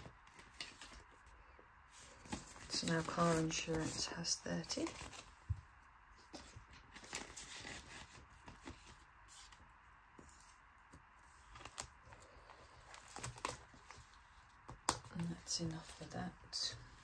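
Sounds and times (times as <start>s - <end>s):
plastic pockets rustling and crinkling: 1.9s - 9.6s, 10.2s - 17.0s.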